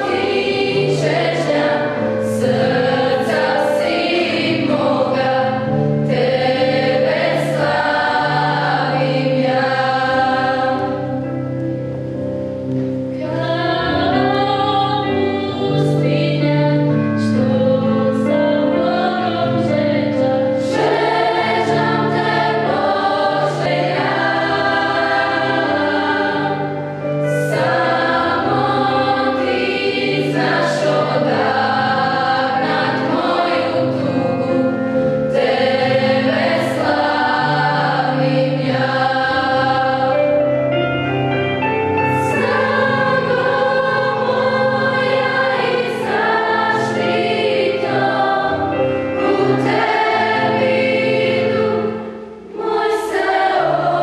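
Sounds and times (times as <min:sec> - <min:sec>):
youth choir singing: 0:00.0 - 0:11.4, 0:13.2 - 0:40.5, 0:42.1 - 0:54.0.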